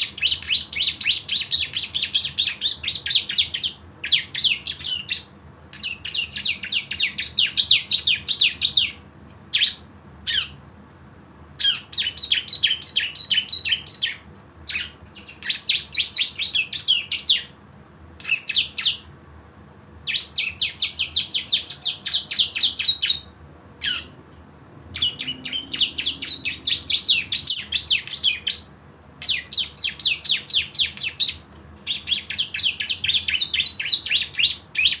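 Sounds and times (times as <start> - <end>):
songbird rattling trill: 0.0 - 10.6, 11.6 - 17.5, 20.1 - 35.0.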